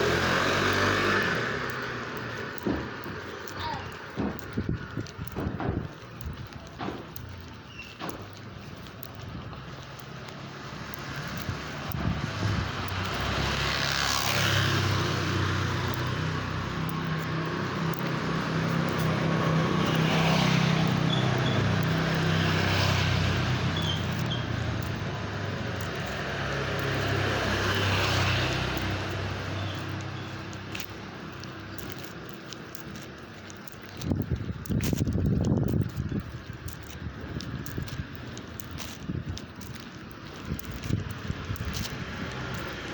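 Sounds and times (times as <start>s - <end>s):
vehicles passing: 0.0s - 42.9s.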